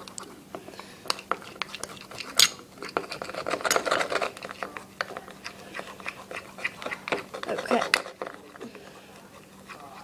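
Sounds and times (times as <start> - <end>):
utensil stirring chocolate in bowl: 0.0 - 10.0
utensil clinking against bowl: 0.8 - 10.0.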